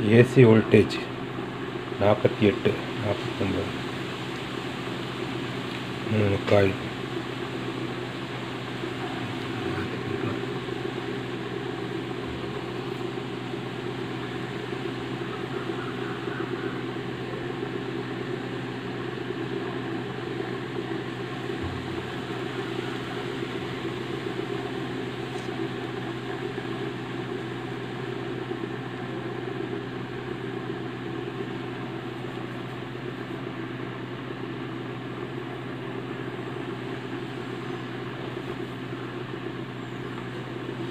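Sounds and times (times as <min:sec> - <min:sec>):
small motor humming and whirring: 0:01.2 - 0:40.9.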